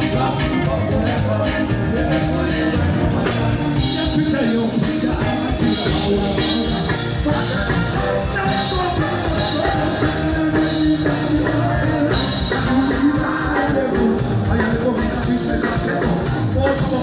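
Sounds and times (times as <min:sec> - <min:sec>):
band music with drums and guitar: 0:00.0 - 0:17.0.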